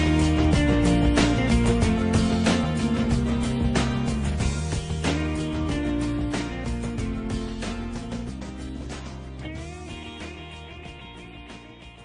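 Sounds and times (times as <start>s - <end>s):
pop music with guitar: 0.0s - 12.0s.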